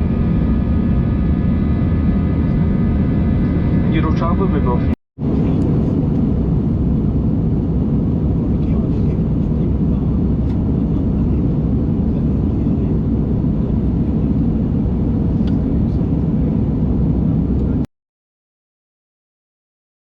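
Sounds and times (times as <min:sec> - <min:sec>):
airplane cabin engine roar: 0:00.0 - 0:17.9.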